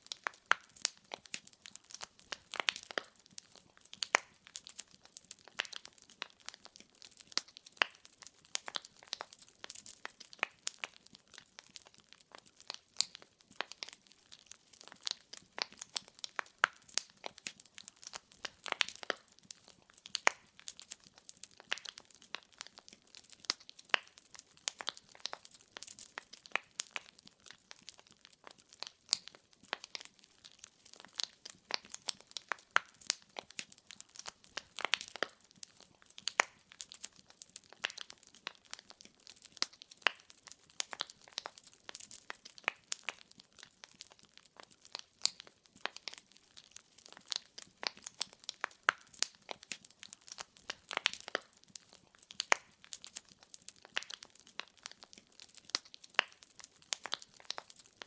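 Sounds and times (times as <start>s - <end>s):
firewood crackling: 0.0s - 58.0s.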